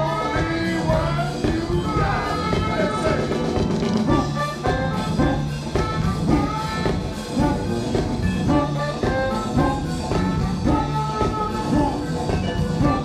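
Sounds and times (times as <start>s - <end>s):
live funk band playing: 0.0s - 13.0s
saxophone melody: 0.0s - 13.0s.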